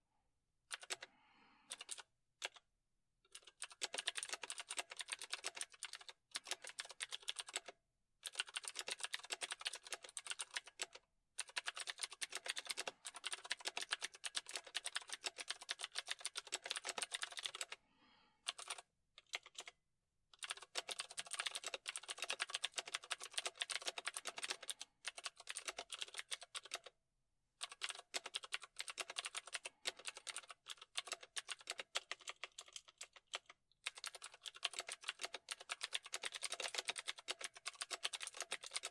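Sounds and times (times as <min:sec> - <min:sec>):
computer keyboard typing: 0:00.7 - 0:01.1, 0:01.7 - 0:02.6, 0:03.3 - 0:17.8, 0:18.5 - 0:19.8, 0:20.4 - 0:27.0, 0:27.6 - 0:38.9.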